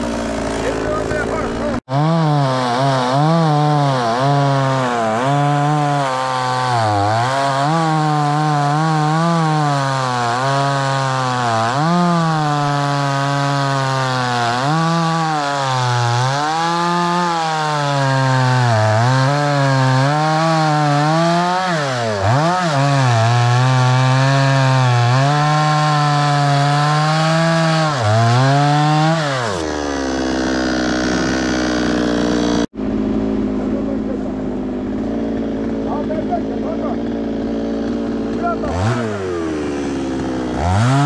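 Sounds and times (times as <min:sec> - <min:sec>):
chainsaw cutting through wood: 0:00.0 - 0:41.0.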